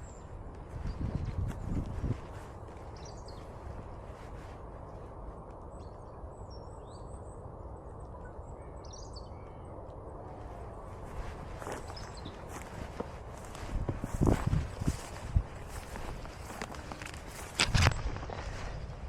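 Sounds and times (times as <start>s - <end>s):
low outdoor ambience: 0.0s - 19.0s.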